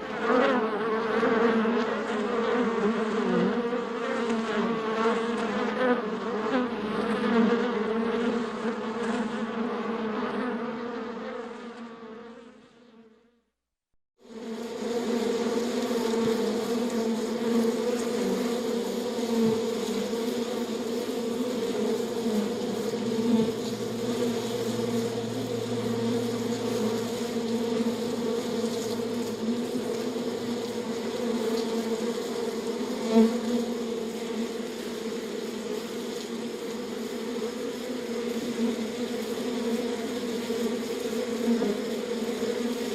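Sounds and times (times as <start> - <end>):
bees buzzing: 0.0 - 12.2, 14.3 - 42.9.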